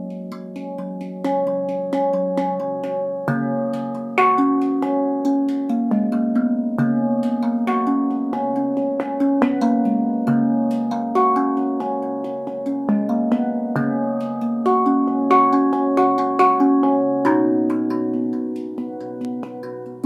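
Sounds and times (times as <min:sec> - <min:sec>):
handpan melody: 0:00.0 - 0:20.0.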